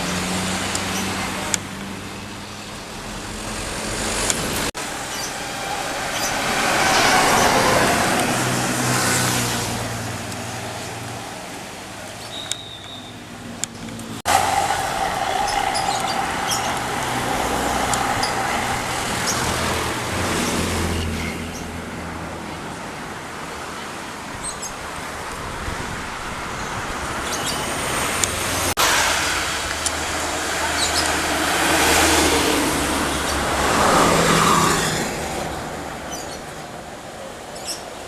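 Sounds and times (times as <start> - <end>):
heavy vehicles passing: 0.0 - 38.0.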